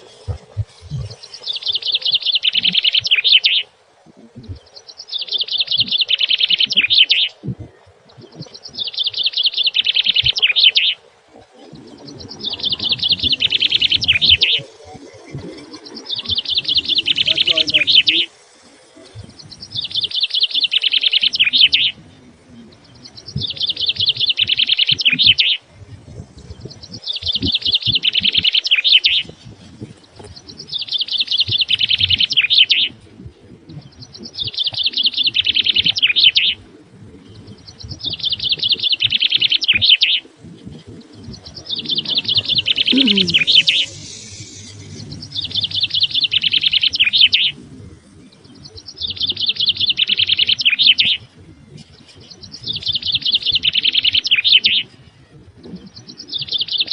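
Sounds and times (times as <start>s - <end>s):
songbird trilling: 1.1s - 3.7s, 4.5s - 11.0s, 11.8s - 22.0s, 22.7s - 25.6s, 26.5s - 29.3s, 30.1s - 33.0s, 33.8s - 36.6s, 37.3s - 55.1s, 55.8s - 56.9s.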